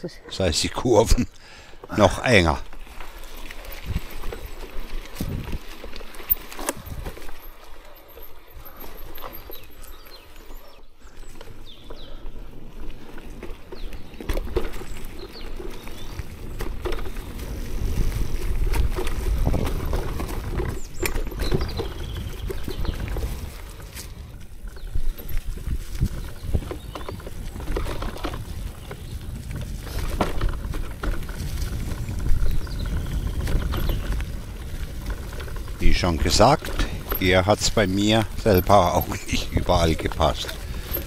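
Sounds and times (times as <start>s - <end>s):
tyres crunching over leaves: 1.9s - 41.0s
bike knocks and rattles: 2.8s - 10.6s, 13.0s - 41.0s.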